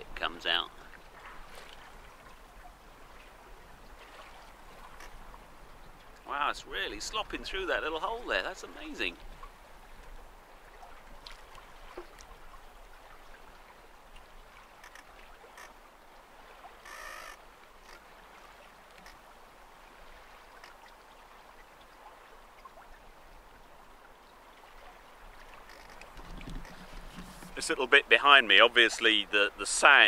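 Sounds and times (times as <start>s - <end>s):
water lapping and splashing: 0.0s - 30.0s.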